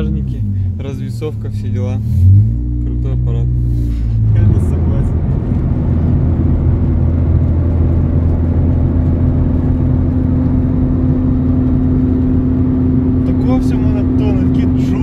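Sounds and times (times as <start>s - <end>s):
car engine droning inside cabin: 0.0s - 15.0s
tyre and road noise: 0.0s - 15.0s.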